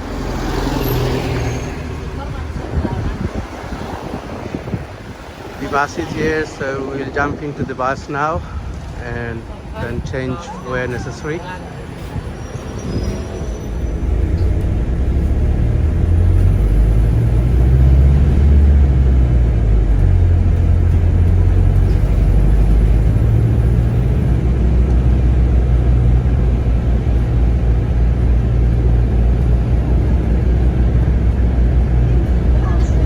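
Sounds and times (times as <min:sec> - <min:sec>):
bus engine rumble: 0:00.0 - 0:33.0
road noise: 0:00.0 - 0:33.0.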